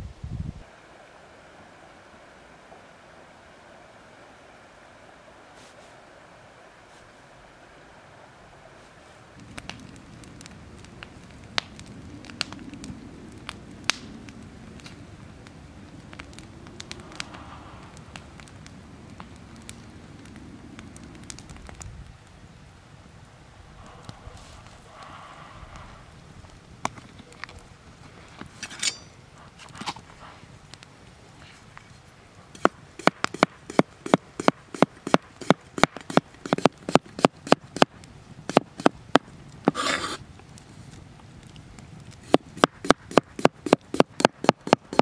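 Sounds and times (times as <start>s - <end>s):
campfire crackling and popping: 0.6s - 45.0s.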